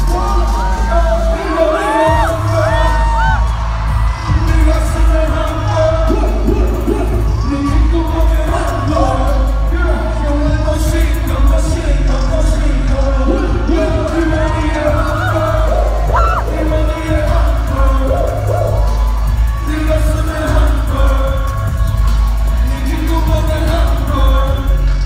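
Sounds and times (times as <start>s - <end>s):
hip-hop beat with heavy bass: 0.0s - 25.0s
performers rapping and singing: 0.0s - 25.0s.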